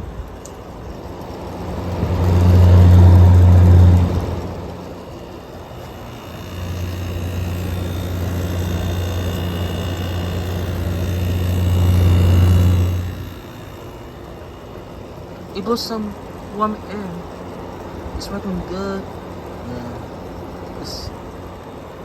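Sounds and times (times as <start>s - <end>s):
air conditioner electric hum: 0.0s - 22.0s
fan air rushing: 0.0s - 22.0s.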